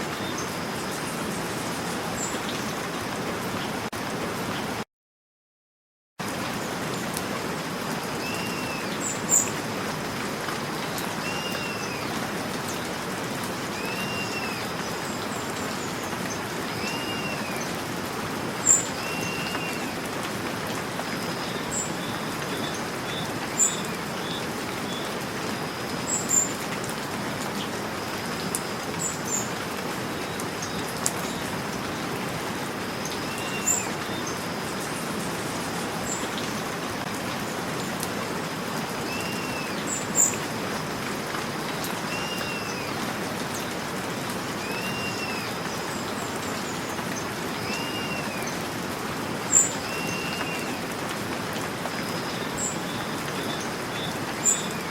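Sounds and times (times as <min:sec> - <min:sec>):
steady rain: 0:00.0 - 0:04.8, 0:06.2 - 0:54.9.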